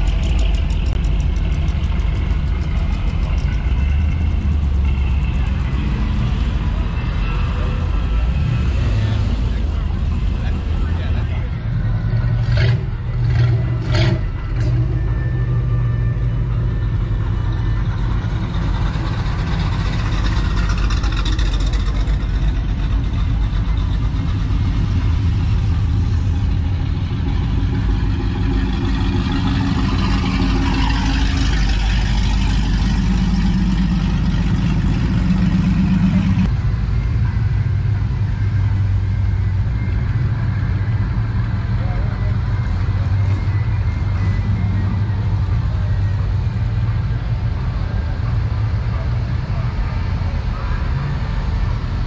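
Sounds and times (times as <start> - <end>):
car engine rumbling: 0.0 - 52.0.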